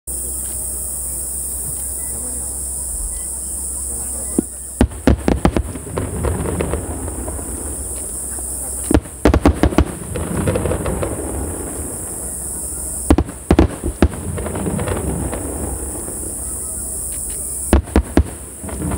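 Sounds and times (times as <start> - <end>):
underwater fireworks bursting: 2.7 - 18.9
sharp bangs trailing into crackling: 3.4 - 18.9.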